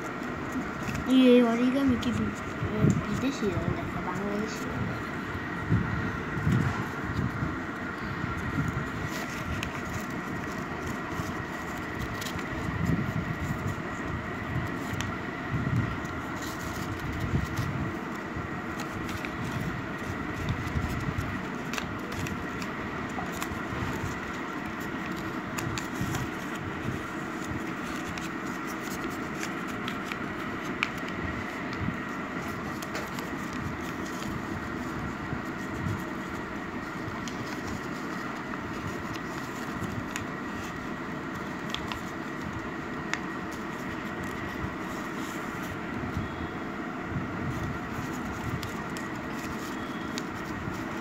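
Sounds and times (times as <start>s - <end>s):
faint high whine: 0.0s - 51.0s
paper crinkling and folding: 0.0s - 51.0s
steady background hum: 0.0s - 51.0s.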